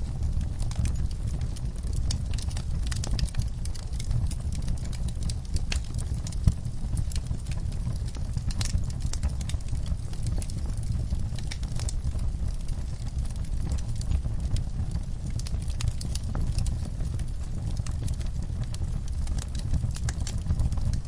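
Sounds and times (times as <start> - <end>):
steady low rumble: 0.0 - 21.0
wood fire crackling and popping: 0.0 - 21.0.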